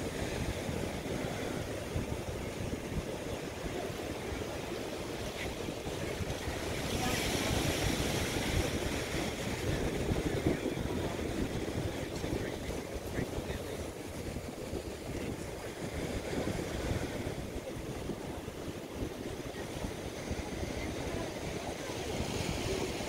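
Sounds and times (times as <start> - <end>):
ocean surf washing: 0.0 - 23.0
wind buffeting microphone: 0.0 - 23.0.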